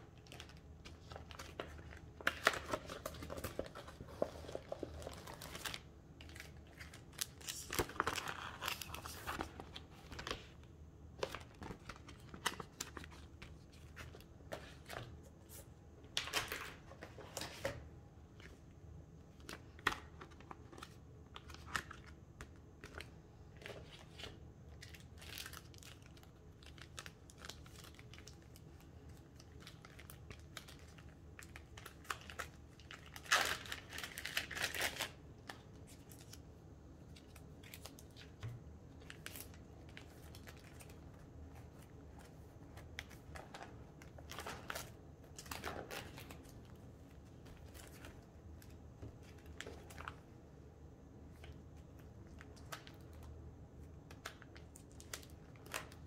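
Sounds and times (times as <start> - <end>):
plastic sleeves crinkling and rustling: 0.0 - 50.6, 51.2 - 56.0.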